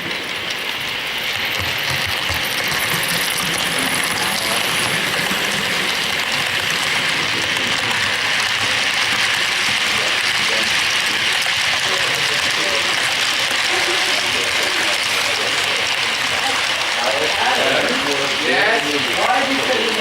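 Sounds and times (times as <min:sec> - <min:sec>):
model train rattling on track: 0:00.0 - 0:20.0.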